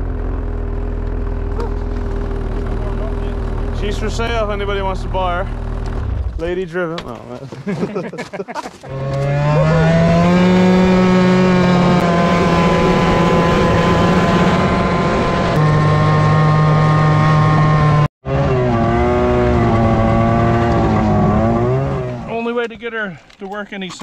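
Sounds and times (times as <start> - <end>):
snowmobile engine running: 0.0 - 22.5.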